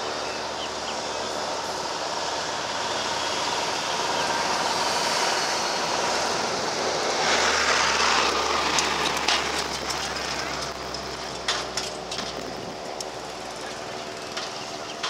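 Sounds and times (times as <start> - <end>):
twin piston aircraft engines droning: 0.0 - 15.0
rushing air noise: 1.4 - 14.8.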